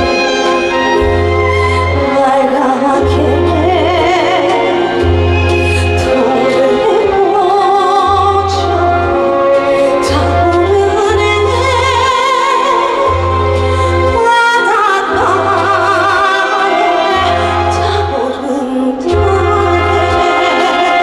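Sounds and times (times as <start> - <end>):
backing band: 0.0 - 21.0
woman singing with vibrato: 1.6 - 21.0.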